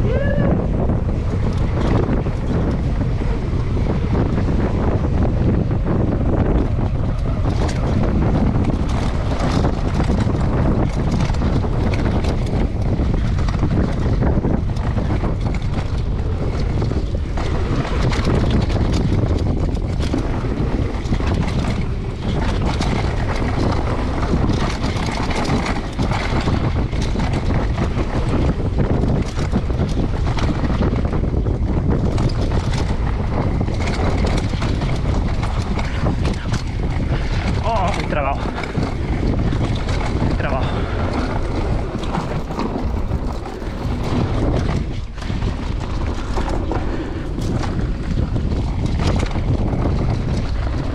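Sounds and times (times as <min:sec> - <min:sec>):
bike rattling over bumps: 0:00.0 - 0:50.9
tyres rolling on dirt trail: 0:00.0 - 0:50.9
wind buffeting microphone: 0:00.0 - 0:50.9.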